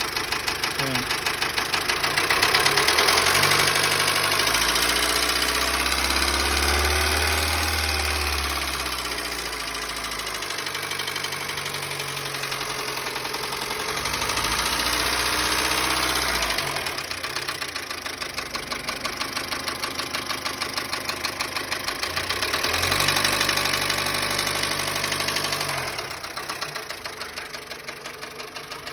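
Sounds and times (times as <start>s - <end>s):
car engine knocking: 0.0s - 28.9s.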